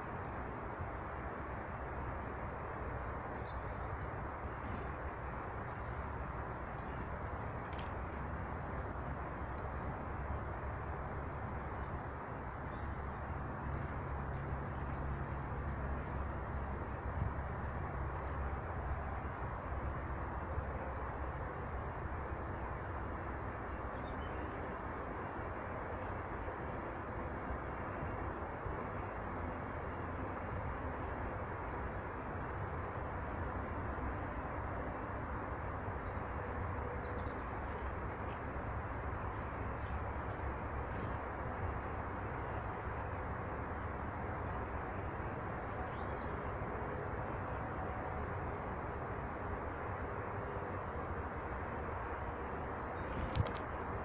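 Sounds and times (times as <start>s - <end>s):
low outdoor rumble: 0.0s - 54.0s.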